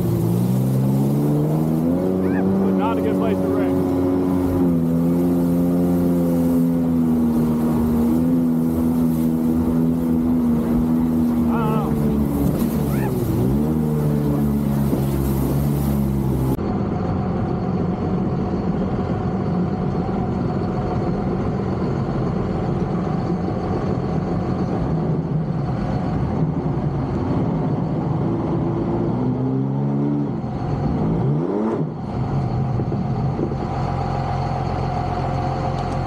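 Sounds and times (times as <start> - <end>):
rush of wind and water: 0.0 - 16.6, 18.6 - 34.2
jet ski engine running: 0.0 - 31.2.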